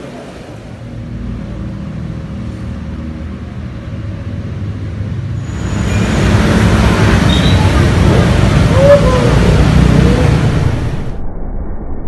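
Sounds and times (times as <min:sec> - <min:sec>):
road traffic rumble: 0:00.0 - 0:11.2.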